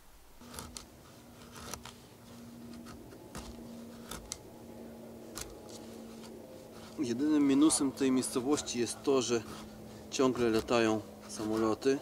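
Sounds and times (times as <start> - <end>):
jet aircraft drone overhead: 2.0 - 12.0.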